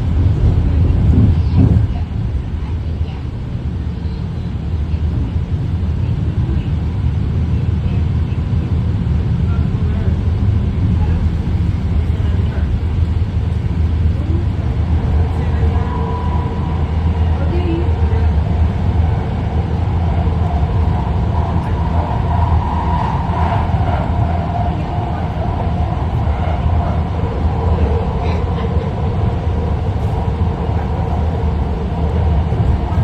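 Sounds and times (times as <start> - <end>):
train car low rumble: 0.0 - 33.0.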